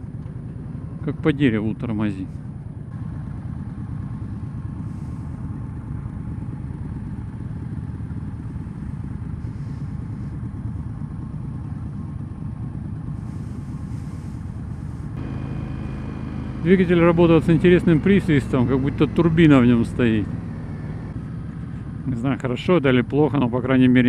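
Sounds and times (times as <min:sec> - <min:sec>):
motorcycles idling: 0:00.0 - 0:24.0.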